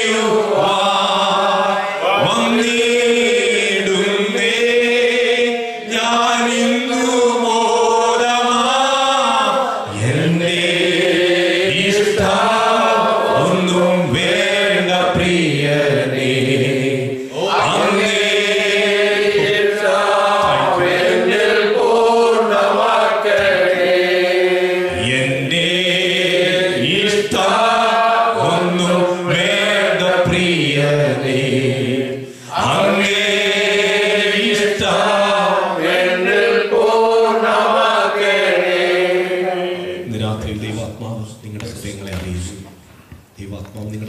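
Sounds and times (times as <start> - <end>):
person singing chant-like song: 0.0 - 40.1.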